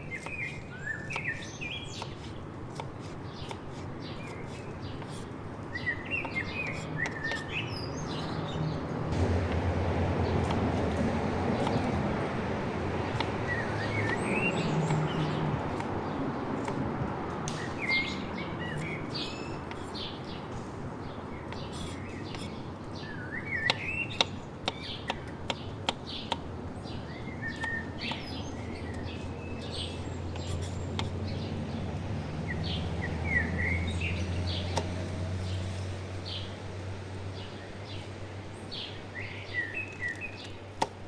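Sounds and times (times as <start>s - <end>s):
birds chirping: 0.0s - 9.2s, 10.1s - 41.0s.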